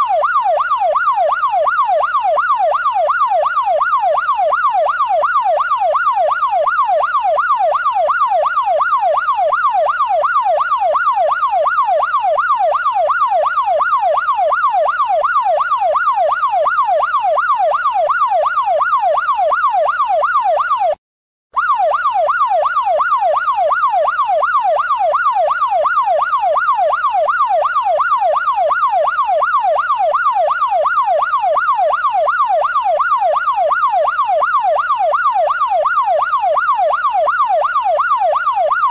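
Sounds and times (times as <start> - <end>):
police siren yelping: 0.0 - 21.0, 21.6 - 38.9.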